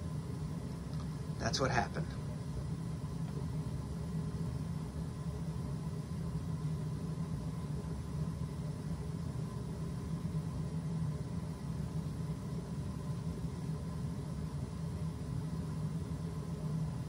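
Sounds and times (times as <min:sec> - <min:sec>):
boiler burner rumbling: 0:00.0 - 0:17.0.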